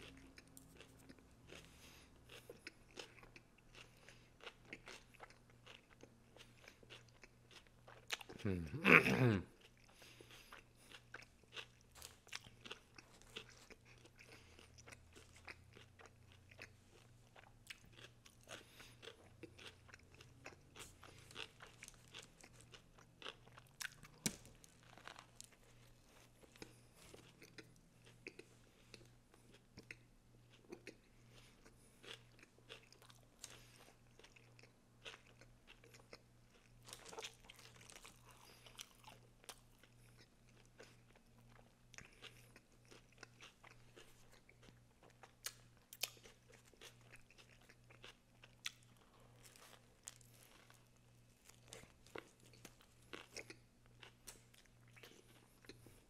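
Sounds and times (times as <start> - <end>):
person chewing sandwich: 0.0 - 56.0.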